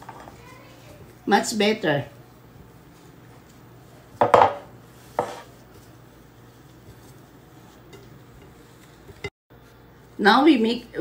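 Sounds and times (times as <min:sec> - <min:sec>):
hand kneading mashed potato: 0:00.0 - 0:11.0.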